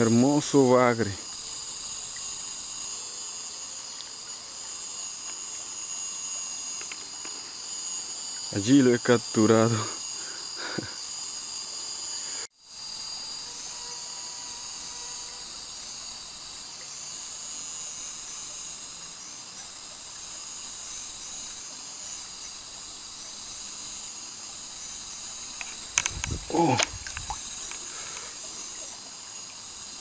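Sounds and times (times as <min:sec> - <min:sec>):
insects buzzing and trilling: 0:00.0 - 0:30.0.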